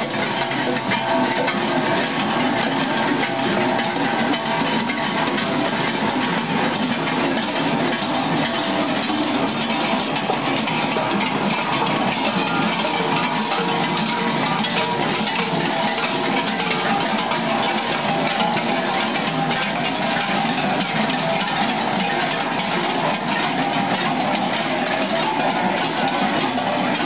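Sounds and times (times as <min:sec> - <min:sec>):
large metal bells clanging: 0:00.0 - 0:27.0.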